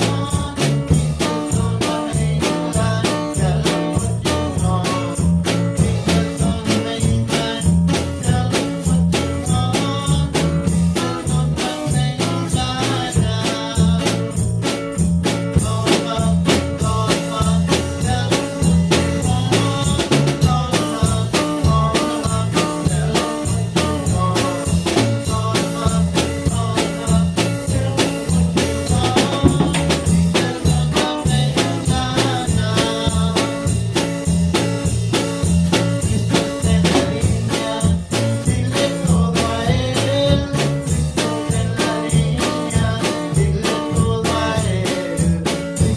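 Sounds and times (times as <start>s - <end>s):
drum kit beat: 0.0s - 45.9s
repeating bass line: 0.0s - 45.9s.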